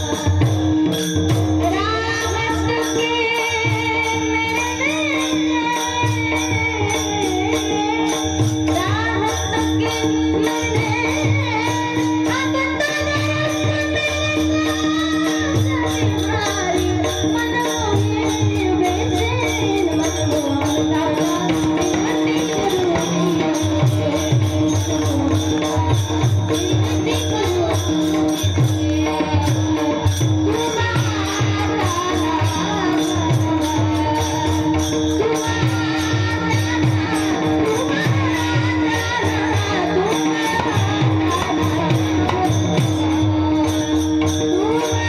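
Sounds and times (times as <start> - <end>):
metallic jingling beat: 0.0 - 45.0
mridang drum strokes: 0.0 - 45.0.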